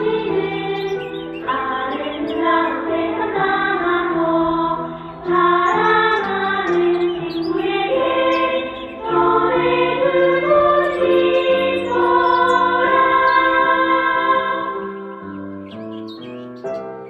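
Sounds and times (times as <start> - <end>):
children's choir singing: 0.0 - 15.2.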